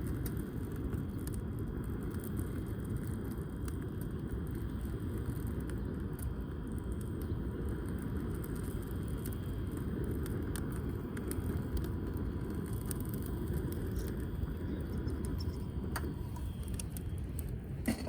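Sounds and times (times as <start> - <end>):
firewood crackling and popping: 0.0 - 18.0
low fire rumble: 0.0 - 18.0.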